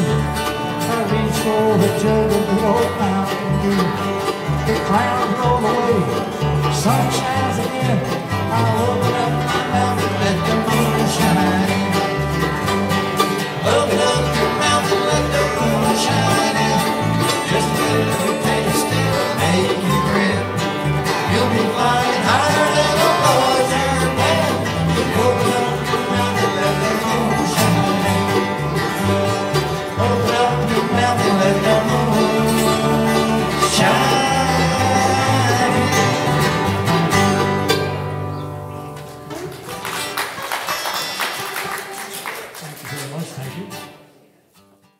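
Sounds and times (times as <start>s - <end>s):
low bass notes: 0.0s - 39.2s
bluegrass band playing: 0.0s - 44.9s.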